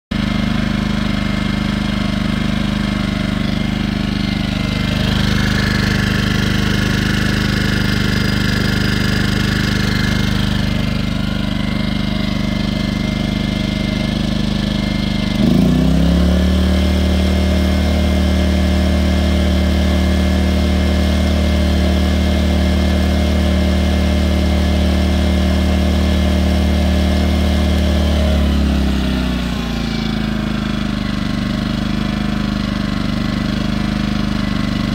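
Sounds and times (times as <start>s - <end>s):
generator engine running: 0.1s - 34.9s.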